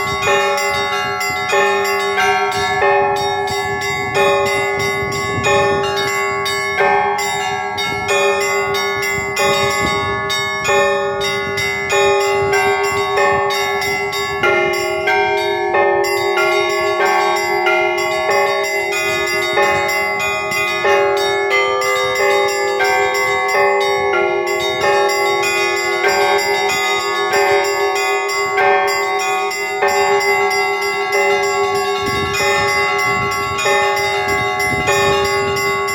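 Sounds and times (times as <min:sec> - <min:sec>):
church bells ringing: 0:00.0 - 0:35.9
low sustained bell tone: 0:00.0 - 0:35.9.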